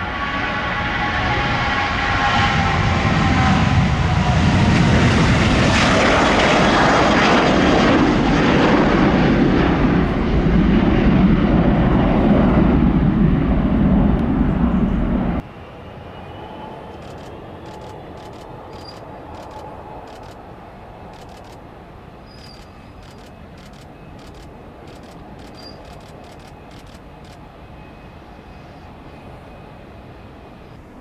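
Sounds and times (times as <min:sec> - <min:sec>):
jet engines whining: 0:00.0 - 0:31.0
loud jet noise: 0:00.0 - 0:31.0.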